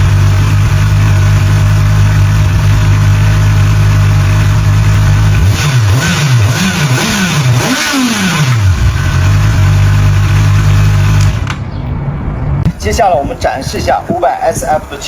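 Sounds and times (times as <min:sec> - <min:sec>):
motorcycle engine idling and revving: 0:00.0 - 0:12.6.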